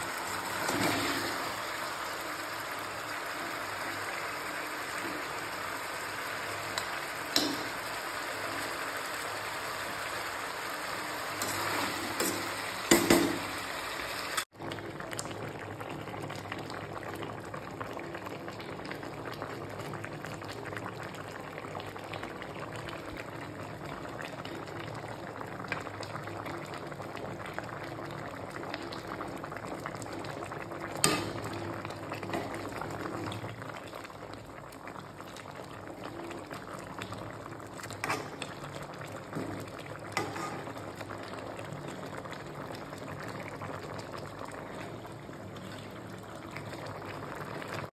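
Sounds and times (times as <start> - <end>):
curry bubbling: 0.0 - 47.9
fish frying: 0.0 - 47.9.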